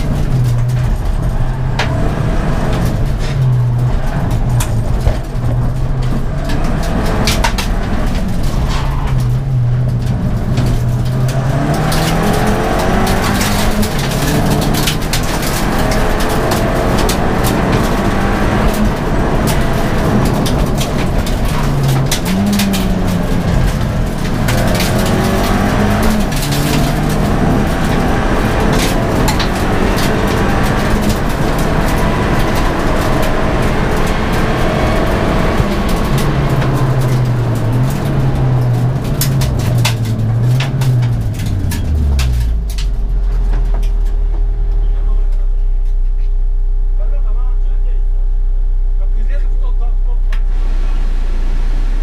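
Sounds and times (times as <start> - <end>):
race car engine revving: 0.0 - 52.0
clicks and rattles: 2.6 - 46.2.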